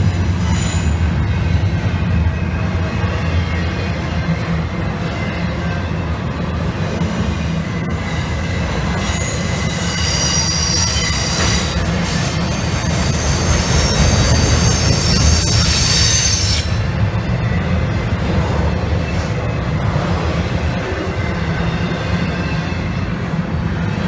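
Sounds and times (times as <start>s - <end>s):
train rumble: 0.0s - 24.0s
train wheels squealing on rails: 0.0s - 24.0s.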